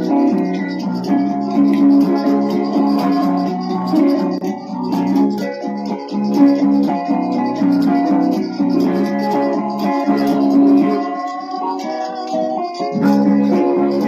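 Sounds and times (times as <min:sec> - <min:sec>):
guitars playing: 0:00.0 - 0:14.0
rattling percussion beat: 0:00.0 - 0:14.0.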